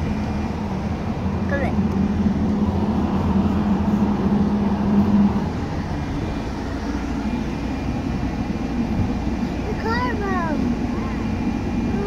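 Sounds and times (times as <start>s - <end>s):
low hum: 0.0s - 9.7s
bus engine and road rumble: 0.0s - 12.0s.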